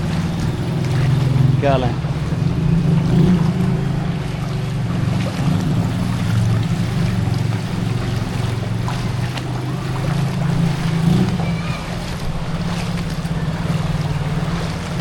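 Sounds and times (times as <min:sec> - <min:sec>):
street noise: 0:00.0 - 0:15.0
vehicle engine running: 0:00.0 - 0:15.0.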